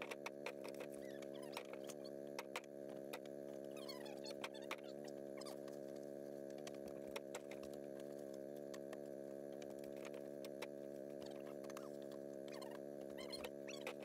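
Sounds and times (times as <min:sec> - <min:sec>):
faint clicks and knocks: 0:00.0 - 0:14.0
faint steady hum: 0:00.0 - 0:14.0.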